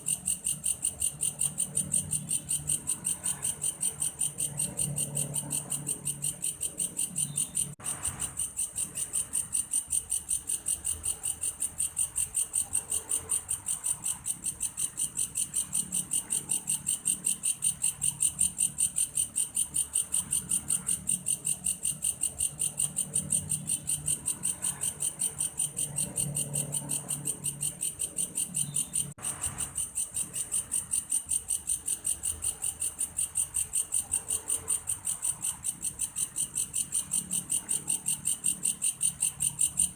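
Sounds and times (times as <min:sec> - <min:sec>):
grasshopper chirping: 0:00.0 - 0:39.9.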